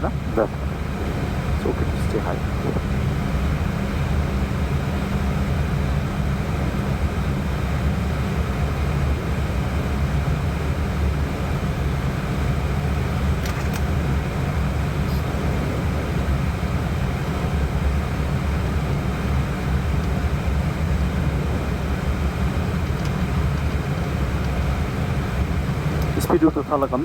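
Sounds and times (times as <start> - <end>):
airliner cockpit engine drone: 0.0 - 27.0.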